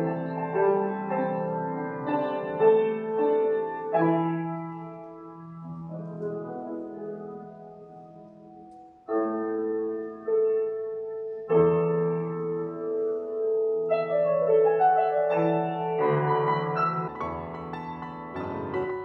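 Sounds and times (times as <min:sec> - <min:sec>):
grand piano playing: 0:00.0 - 0:19.0.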